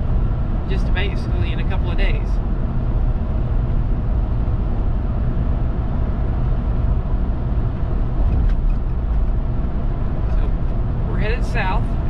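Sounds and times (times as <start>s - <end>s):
truck engine drone: 0.0s - 12.0s
tyre and road noise: 0.0s - 12.0s.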